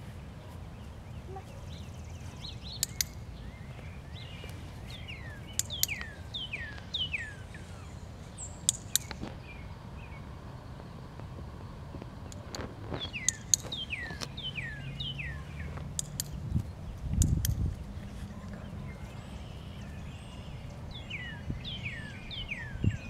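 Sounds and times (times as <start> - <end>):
low outdoor background noise: 0.0 - 23.0.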